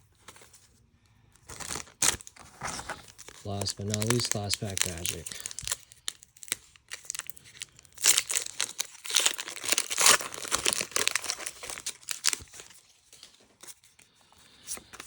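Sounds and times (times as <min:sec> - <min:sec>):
foil wrapper crinkling and tearing: 0:01.4 - 0:15.0.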